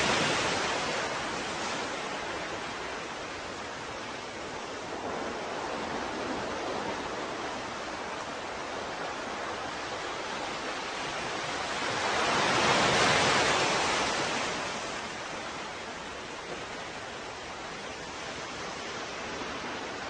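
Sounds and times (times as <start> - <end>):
ocean surf: 0.0 - 20.0.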